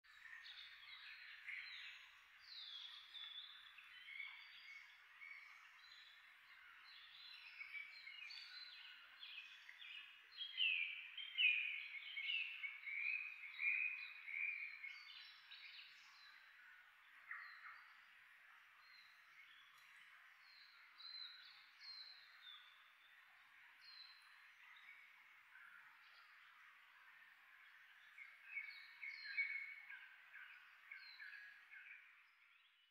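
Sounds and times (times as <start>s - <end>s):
birds calling and singing: 0.1s - 32.9s.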